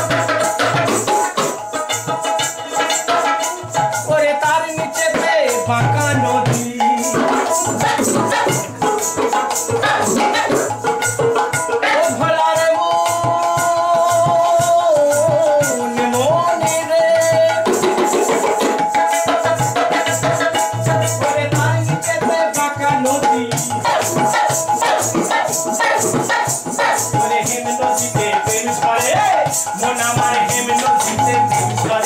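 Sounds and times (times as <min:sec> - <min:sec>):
hand drum beating: 0:00.0 - 0:32.0
man singing: 0:00.0 - 0:32.0.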